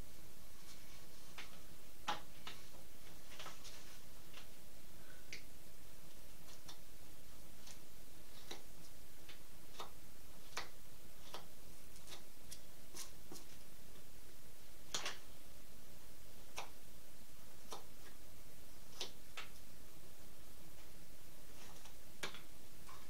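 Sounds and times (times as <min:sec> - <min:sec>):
low background hiss: 0:00.0 - 0:23.0.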